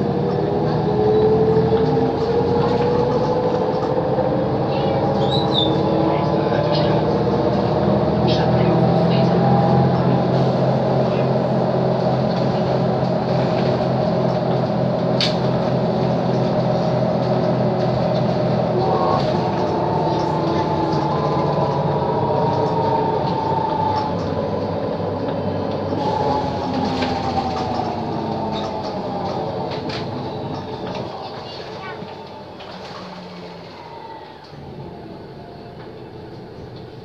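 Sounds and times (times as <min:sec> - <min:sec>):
bus engine and drivetrain hum: 0:00.0 - 0:37.0.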